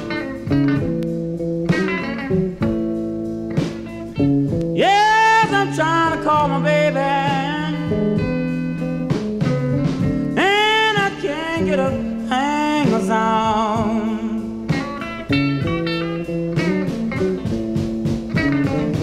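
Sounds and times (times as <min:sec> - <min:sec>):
blues guitar record: 0:00.0 - 0:19.0.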